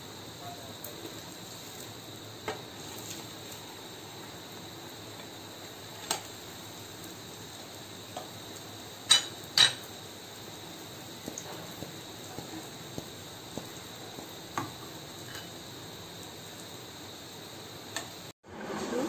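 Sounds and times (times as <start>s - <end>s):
batter sizzling in oil: 0.0s - 19.0s.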